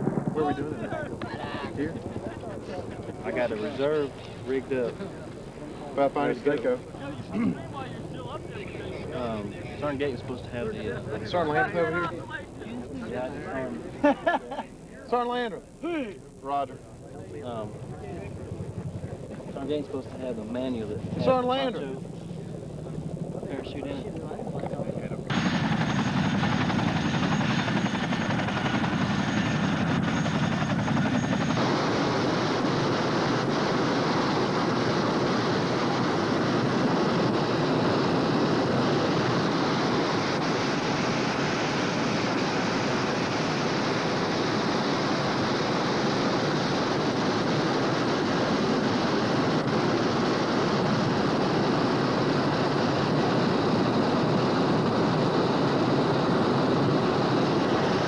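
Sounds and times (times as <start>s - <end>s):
helicopter engines and rotors: 0.0s - 58.0s.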